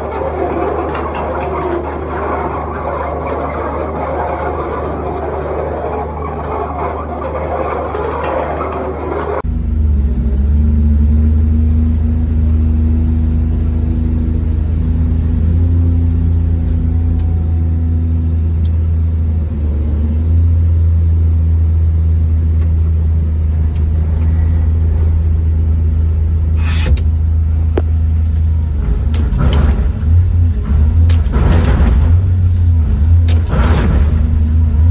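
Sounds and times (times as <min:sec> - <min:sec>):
heavy machine engine rumbling: 0:00.0 - 0:34.9.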